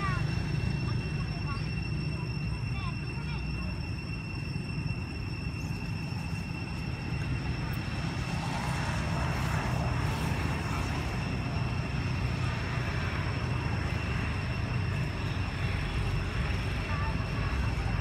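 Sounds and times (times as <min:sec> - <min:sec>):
low engine drone: 0:00.0 - 0:18.0
thin high tone: 0:00.0 - 0:18.0.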